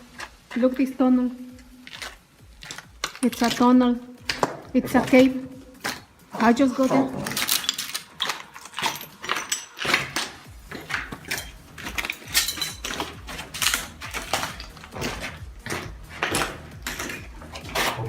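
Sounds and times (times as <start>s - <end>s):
footsteps crunching: 0.0s - 18.0s.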